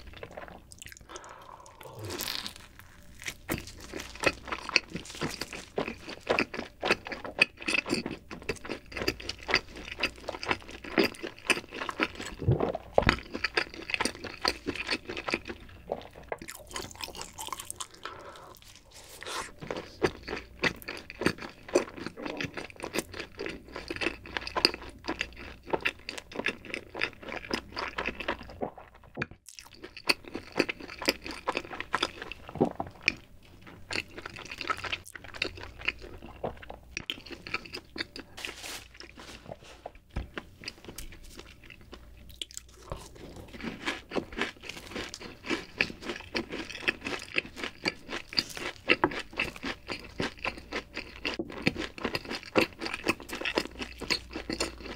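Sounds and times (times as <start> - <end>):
crunchy chewing of fried snacks: 0.0 - 54.9.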